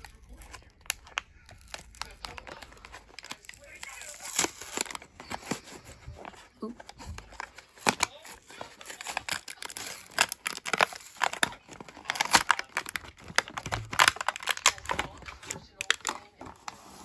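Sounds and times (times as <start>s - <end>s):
cardboard tearing: 0.0s - 17.0s
plastic blister pack crackling: 0.0s - 17.0s.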